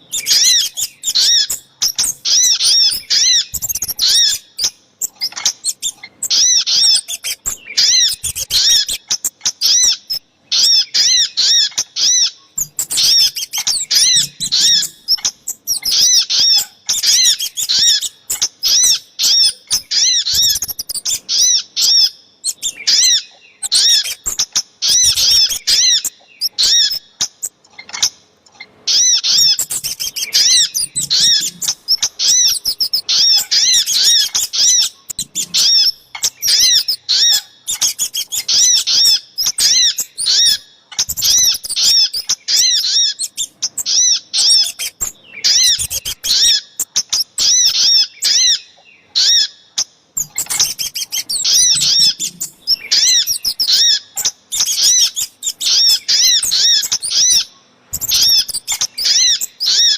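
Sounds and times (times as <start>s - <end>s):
sharp high bird chirps: 0.0s - 28.1s, 28.9s - 48.6s, 50.2s - 59.9s.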